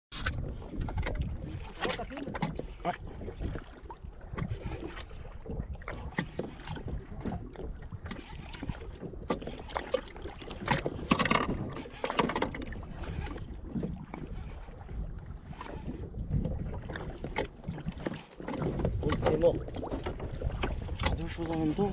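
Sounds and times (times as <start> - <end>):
knocks and clicks against hull: 0.1 - 21.9
water lapping: 0.1 - 21.9
wind buffeting microphone: 0.1 - 21.9.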